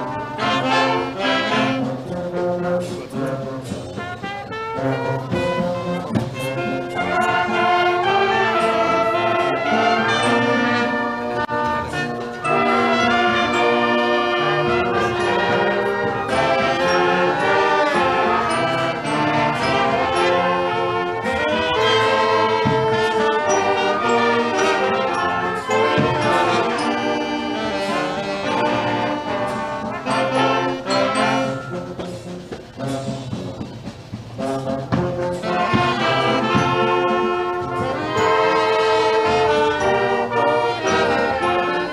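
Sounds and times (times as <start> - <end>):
brass band playing held chords: 0.0 - 41.9.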